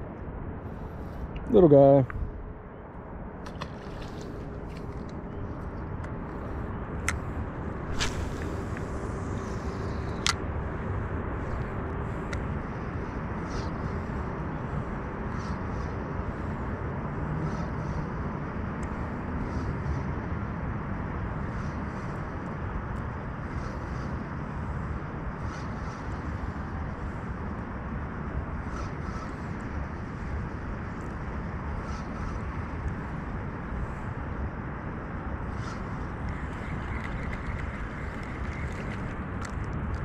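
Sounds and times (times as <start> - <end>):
road traffic hum: 0.0 - 40.0.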